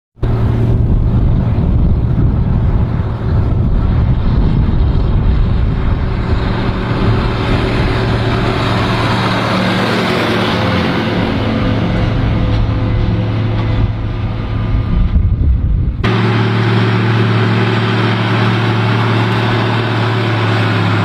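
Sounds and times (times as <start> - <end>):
tractor diesel engine running: 0.2 - 21.0.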